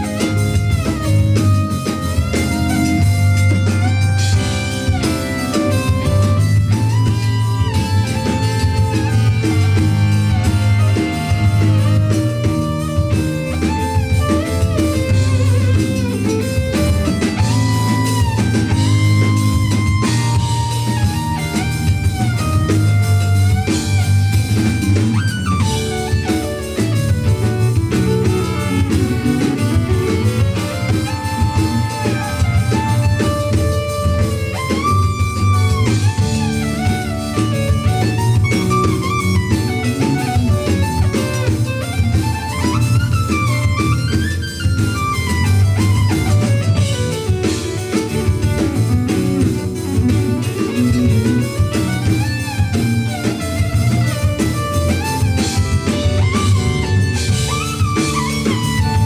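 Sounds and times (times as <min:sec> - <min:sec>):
bass line: 0:00.0 - 0:59.0
drum kit: 0:00.0 - 0:59.0
jazz funk band playing: 0:00.0 - 0:59.0
lead melody with bent notes: 0:00.0 - 0:59.0.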